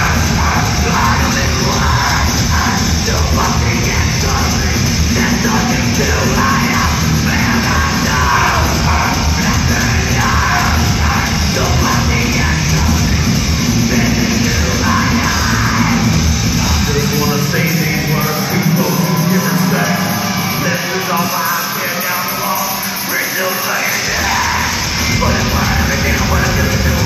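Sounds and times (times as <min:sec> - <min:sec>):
man yelling vocals: 0:00.0 - 0:13.2, 0:13.9 - 0:22.8
heavy metal band playing live: 0:00.0 - 0:27.0.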